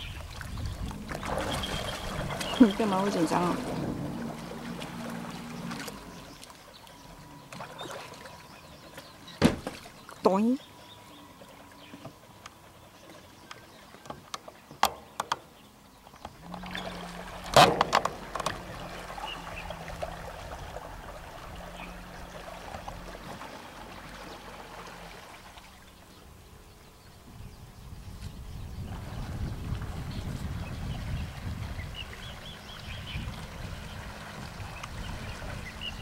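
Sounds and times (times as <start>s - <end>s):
model boat motor hum: 0.0s - 36.0s
water noise: 0.0s - 36.0s.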